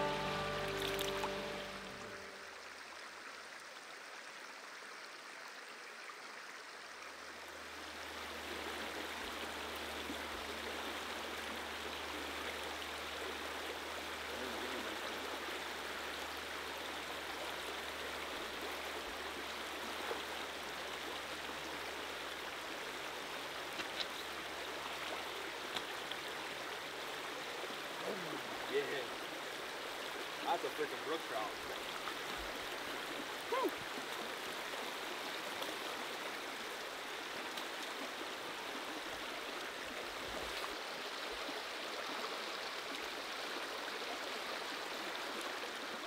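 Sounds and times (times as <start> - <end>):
stream rushing over riffle: 0.0 - 3.8, 7.6 - 46.0.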